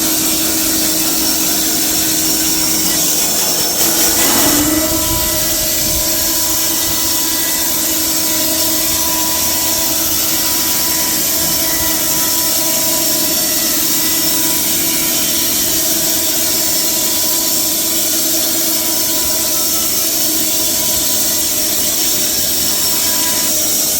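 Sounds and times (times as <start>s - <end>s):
band saw cutting log: 0.0s - 23.9s.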